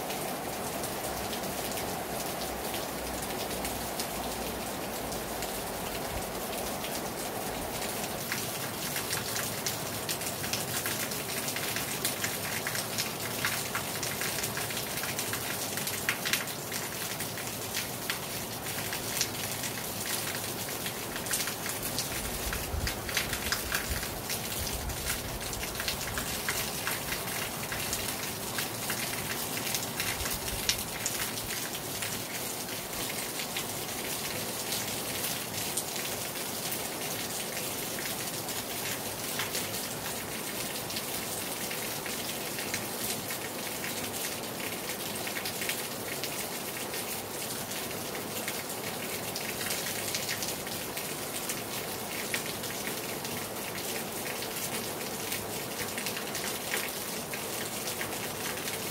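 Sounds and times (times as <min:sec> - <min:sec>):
rain hiss: 0:00.0 - 0:58.9
raindrops pattering on hard surfaces: 0:00.0 - 0:58.9.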